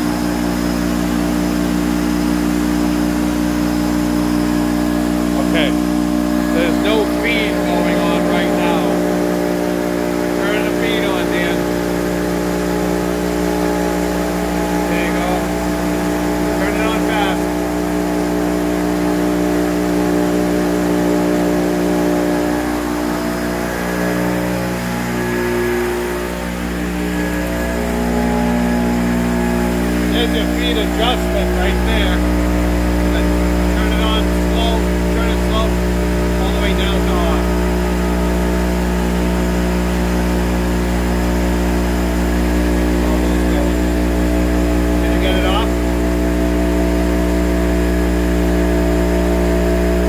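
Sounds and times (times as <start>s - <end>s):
saw machine humming: 0.0s - 50.0s.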